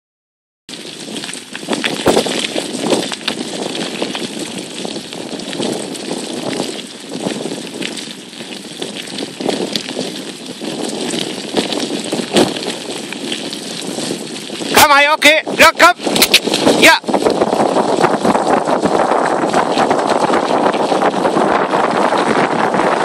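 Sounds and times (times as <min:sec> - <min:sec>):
bicycle rolling and rattling: 0:00.7 - 0:23.0.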